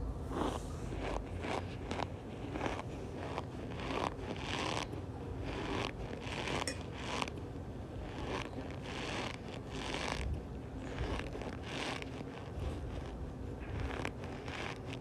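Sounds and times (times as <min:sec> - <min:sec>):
cornstarch squeaky crunches: 0:00.4 - 0:07.4, 0:08.0 - 0:15.0.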